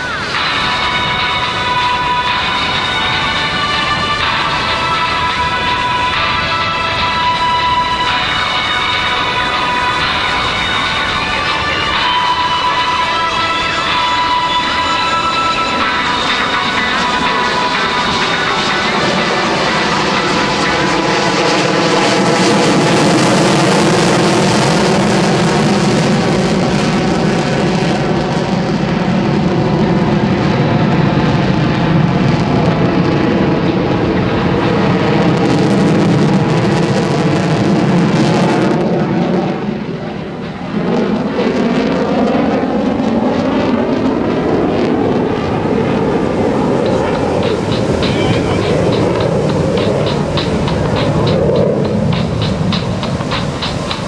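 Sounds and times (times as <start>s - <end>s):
fighter jet flying past: 0.0s - 54.0s.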